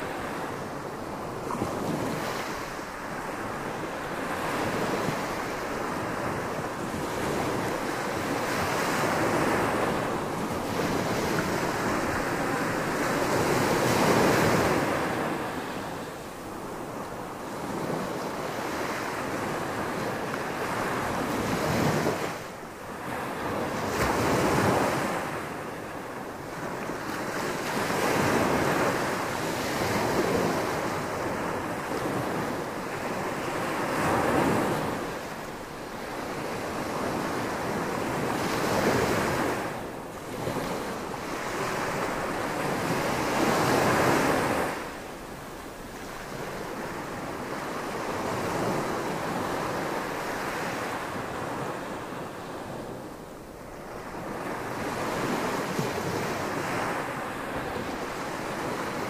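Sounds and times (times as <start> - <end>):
small waves breaking on beach: 0.0 - 59.0.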